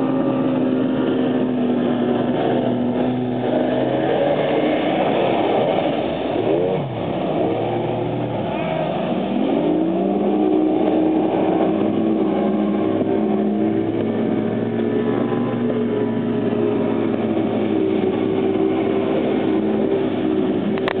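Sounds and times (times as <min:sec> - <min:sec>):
outboard engine drone: 0:00.0 - 0:21.0.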